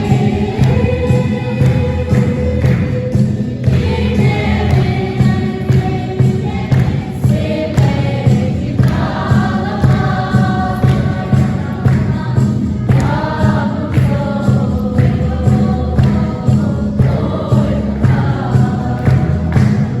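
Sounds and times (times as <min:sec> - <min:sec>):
choir singing gospel song: 0:00.0 - 0:20.0.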